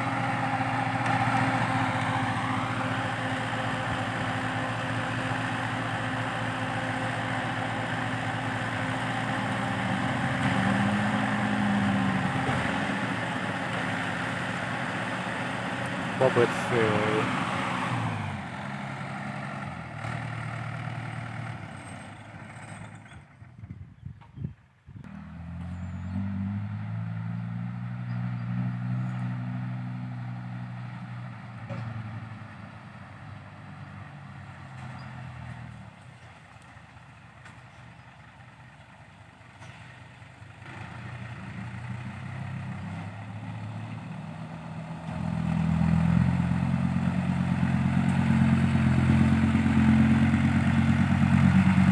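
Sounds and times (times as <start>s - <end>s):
earthmoving machine diesel engine: 0.0s - 23.6s, 25.1s - 51.9s.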